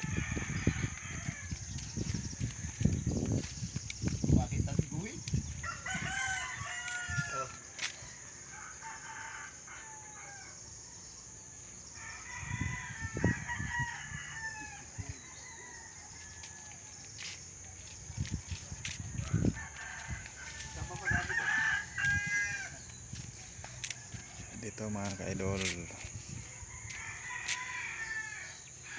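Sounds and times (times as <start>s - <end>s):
roosters crowing: 0.0s - 3.5s, 5.4s - 18.1s, 18.7s - 28.9s.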